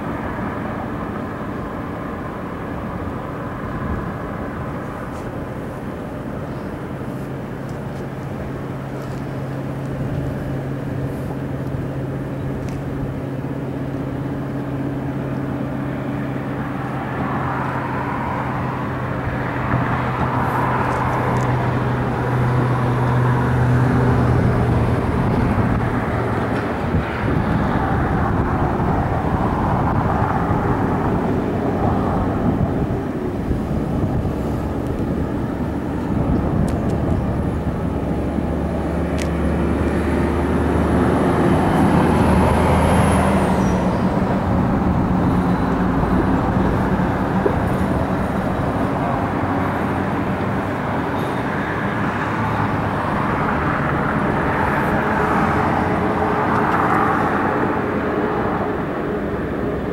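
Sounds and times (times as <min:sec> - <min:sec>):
diesel locomotive rumble: 0:00.0 - 0:59.9.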